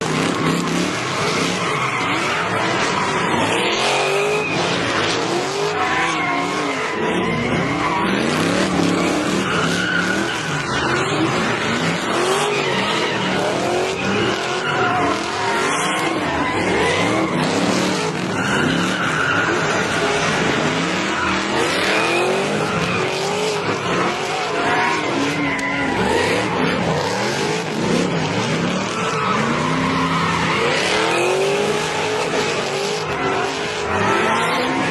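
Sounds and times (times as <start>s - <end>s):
car engines revving: 0.0s - 34.9s
spinning tyres squealing: 0.0s - 34.9s.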